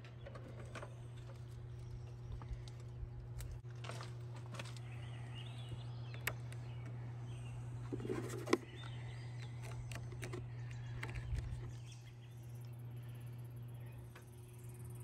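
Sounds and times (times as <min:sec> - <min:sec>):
birds chirping: 0:00.0 - 0:03.6, 0:04.4 - 0:15.0
steady low hum: 0:00.0 - 0:15.0.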